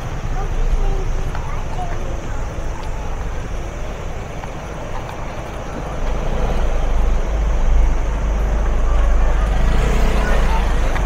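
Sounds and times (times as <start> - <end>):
engine rumble and road noise: 0.0 - 11.0.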